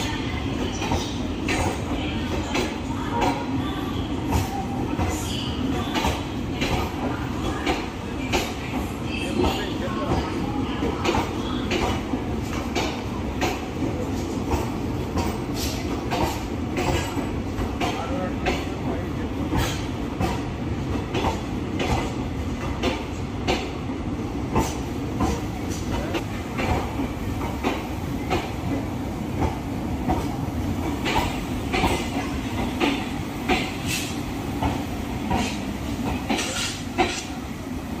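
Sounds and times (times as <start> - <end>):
clickety-clack at rail joints: 0.0 - 38.0
train wheels rumbling on track: 0.0 - 38.0.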